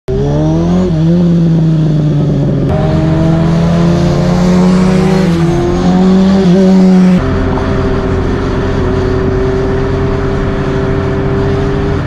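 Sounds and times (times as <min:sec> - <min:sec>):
motorcycle engine cruising: 0:00.1 - 0:12.0.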